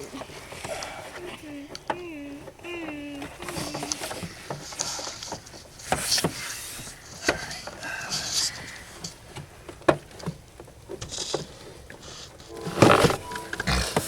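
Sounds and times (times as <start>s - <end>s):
plastic parts clicking and knocking: 1.7s - 14.0s.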